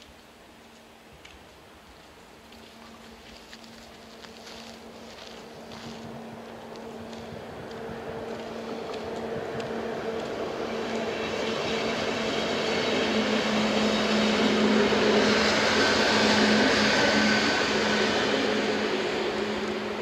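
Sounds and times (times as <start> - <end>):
electric train passing: 2.0 - 20.0
high whine: 2.7 - 20.0.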